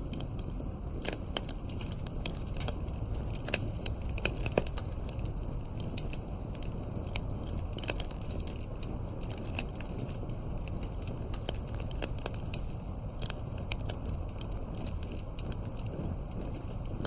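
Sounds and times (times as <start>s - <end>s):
low rumble of flames: 0.0s - 17.0s
wood crackling and popping: 0.0s - 17.0s.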